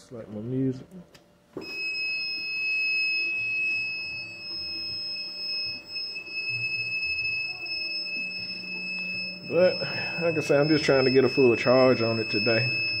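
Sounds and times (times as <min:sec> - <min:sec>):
high-pitched alarm tone: 0:01.6 - 0:13.0.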